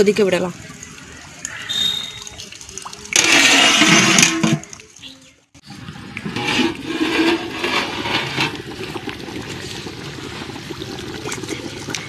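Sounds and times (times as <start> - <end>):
water bubbling at a rolling boil: 0.0 - 12.0.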